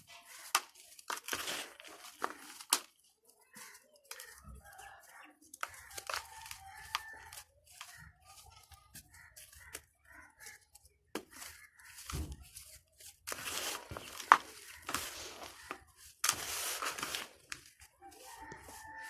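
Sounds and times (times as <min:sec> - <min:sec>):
dry dirt balls crumbling: 0:00.0 - 0:19.0.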